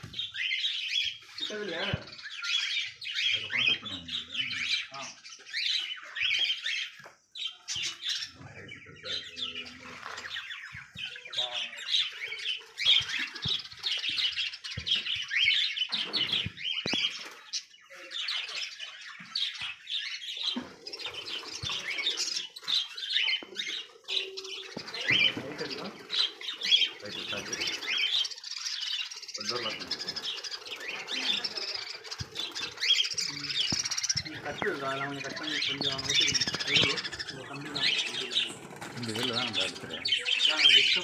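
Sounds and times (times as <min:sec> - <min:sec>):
budgerigars chattering and squawking: 0:00.0 - 0:41.0.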